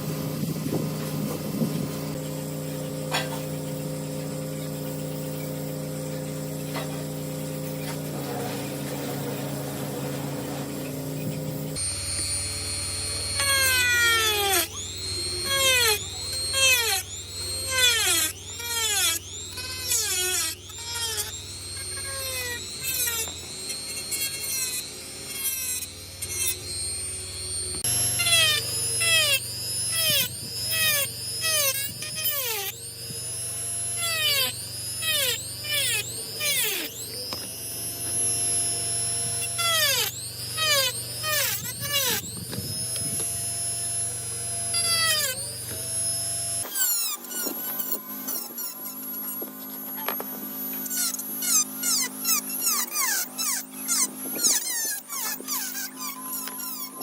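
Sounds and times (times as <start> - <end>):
power tool motor running: 0.0 - 57.0
quick falling whines: 0.0 - 57.0.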